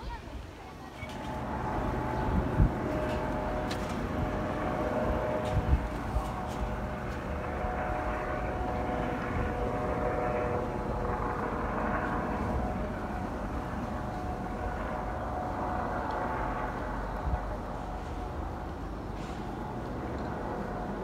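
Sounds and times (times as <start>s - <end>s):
distant engine drone: 0.1s - 21.0s.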